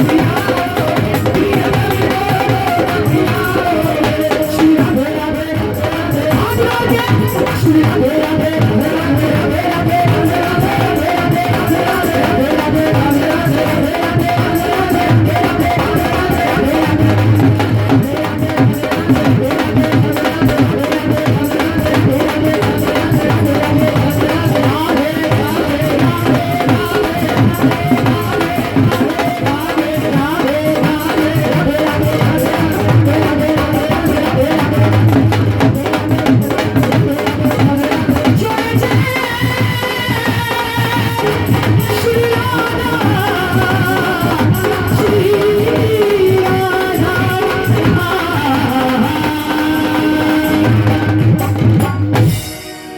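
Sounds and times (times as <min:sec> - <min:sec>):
devotional music: 0:00.0 - 0:52.9
hand drums: 0:00.0 - 0:52.9
rattling percussion: 0:00.0 - 0:52.9.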